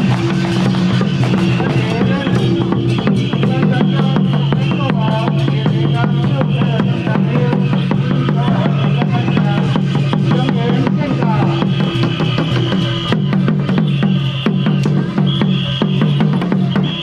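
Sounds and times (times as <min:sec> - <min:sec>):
big drum beating: 0:00.0 - 0:17.0
cymbals crashing: 0:00.0 - 0:17.0.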